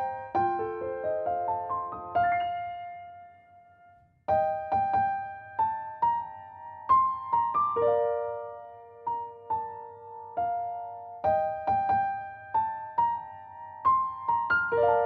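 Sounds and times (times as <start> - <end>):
slow keyboard melody: 0.0 - 14.2.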